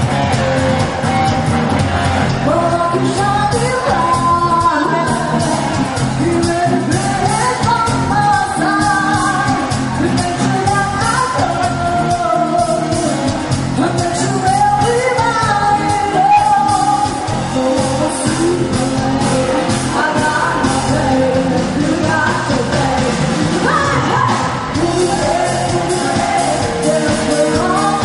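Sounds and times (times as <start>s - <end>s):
lead singer singing: 0.0s - 28.0s
rock band playing: 0.0s - 28.0s
steady drum beat: 0.0s - 28.0s.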